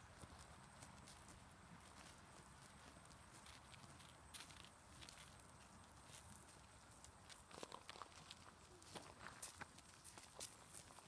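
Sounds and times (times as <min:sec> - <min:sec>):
alpacas cropping grass: 0:00.0 - 0:11.0.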